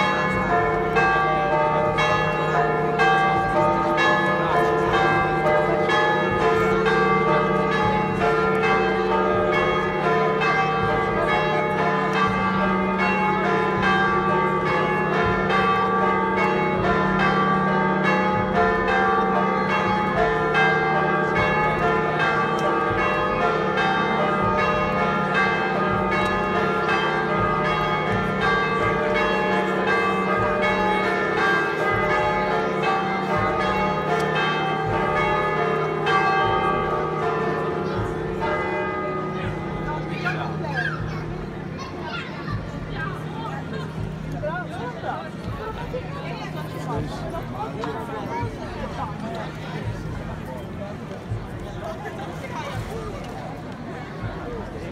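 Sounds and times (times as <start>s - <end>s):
church bells pealing: 0.0s - 54.9s.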